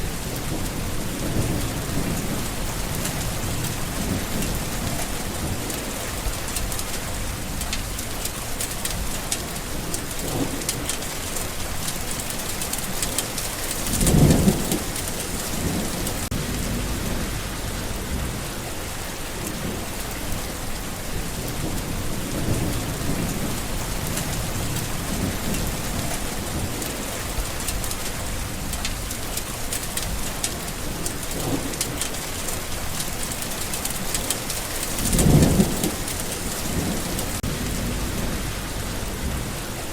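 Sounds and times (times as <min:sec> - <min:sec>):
distant thunder rolling: 0:00.0 - 0:08.2, 0:12.9 - 0:29.4, 0:30.0 - 0:39.9
rain falling: 0:00.0 - 0:39.9.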